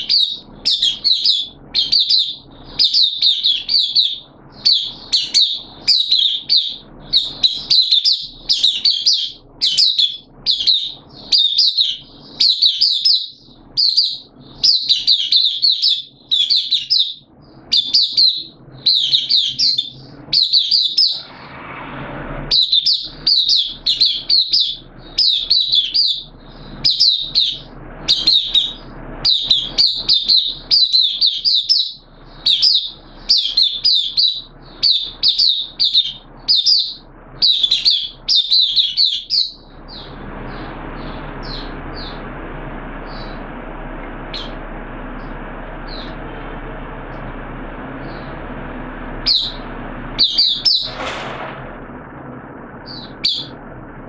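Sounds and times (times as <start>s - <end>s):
bird twittering song: 0.0s - 21.4s, 22.5s - 42.3s, 43.0s - 43.5s, 44.3s - 44.6s, 45.2s - 46.2s, 48.0s - 48.4s, 49.2s - 51.0s, 52.8s - 53.6s.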